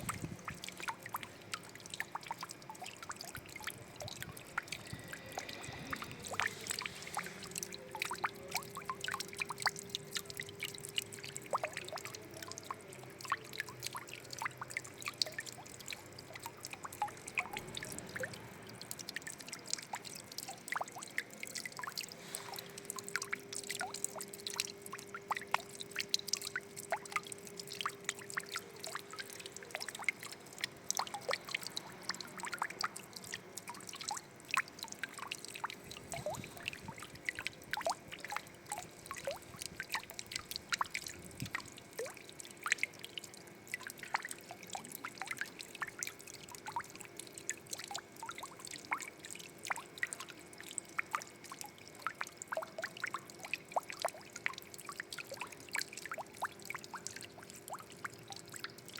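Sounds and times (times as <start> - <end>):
water drips and splashes: 0.0 - 58.9
water trickling and pouring: 0.0 - 58.9.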